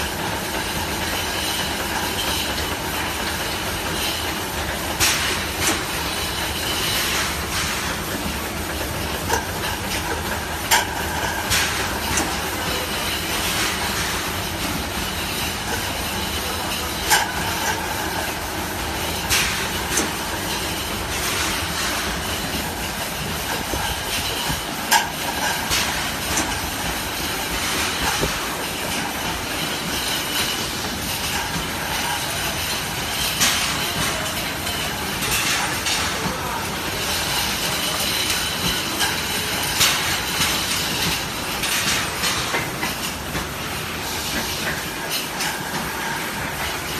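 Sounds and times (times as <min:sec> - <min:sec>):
filling machine running: 0:00.0 - 0:46.9.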